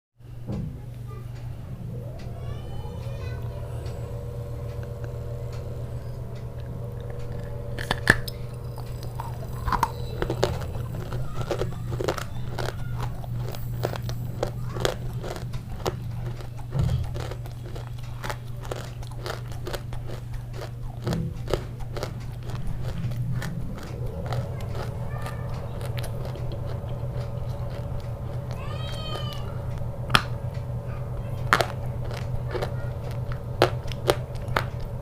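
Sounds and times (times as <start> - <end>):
low steady hum: 0.2 - 35.0
crunchy food being chewed: 3.2 - 35.0.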